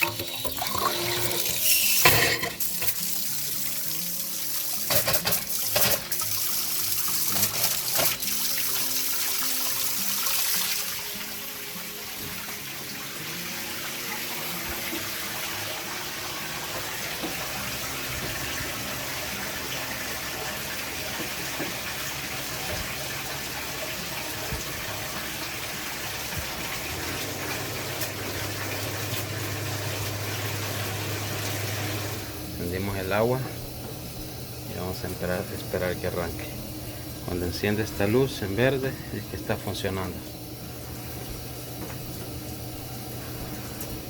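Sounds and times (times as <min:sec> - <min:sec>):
water running from a tap: 0:00.0 - 0:44.0.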